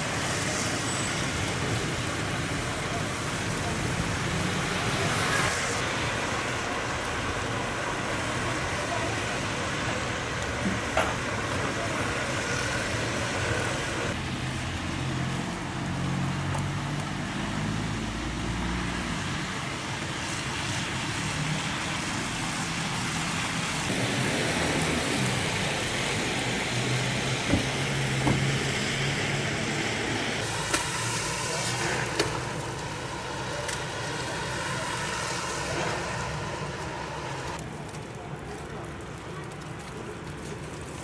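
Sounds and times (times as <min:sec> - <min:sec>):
passing cars: 0:00.0 - 0:38.4.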